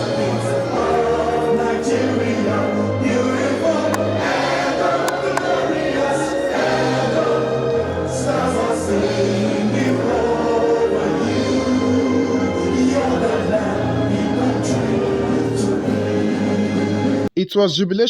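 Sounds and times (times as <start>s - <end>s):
choir singing gospel music: 0.0s - 17.3s.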